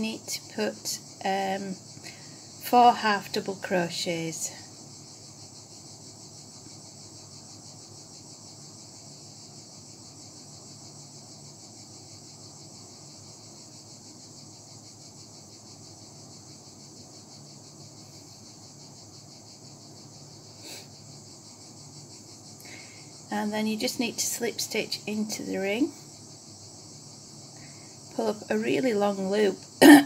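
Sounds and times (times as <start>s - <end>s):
high-pitched trilling hiss: 4.4s - 30.0s.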